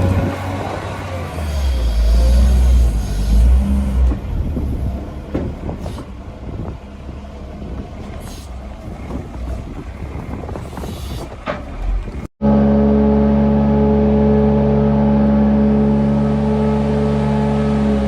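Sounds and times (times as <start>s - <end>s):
heavy engine rumbling: 0.0s - 18.0s.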